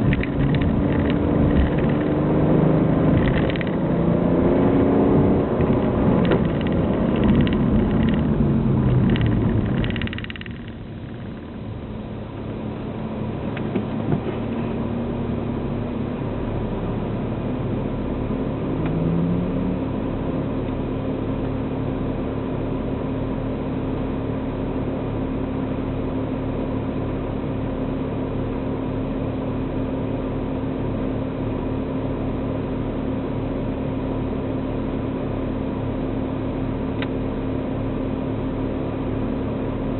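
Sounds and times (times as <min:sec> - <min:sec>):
car engine and exhaust drone: 0:00.0 - 0:39.9.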